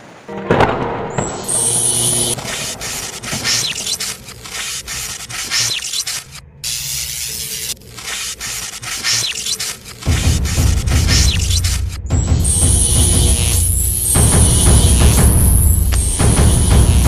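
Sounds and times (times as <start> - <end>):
electric crackling and sizzling: 1.4 - 17.0
short sweeping zaps: 1.4 - 17.0.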